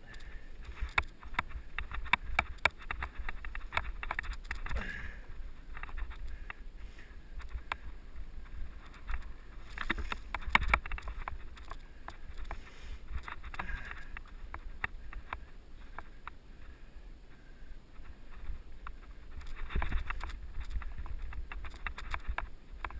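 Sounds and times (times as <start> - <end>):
mountain bike rattling and clicking: 0.0 - 6.6, 7.4 - 16.1, 18.3 - 22.9
wind rumble on microphone: 0.0 - 22.9.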